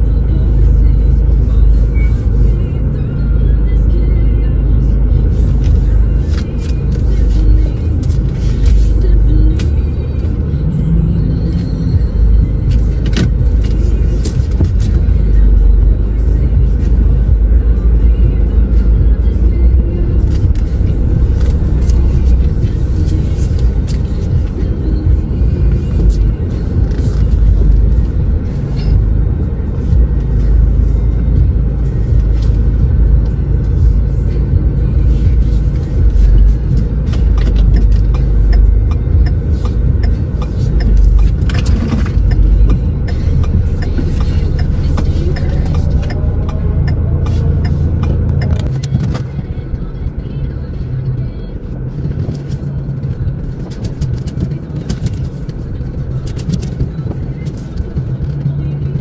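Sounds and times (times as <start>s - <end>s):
engine and road rumble: 0.0s - 59.0s
music playing: 0.0s - 59.0s.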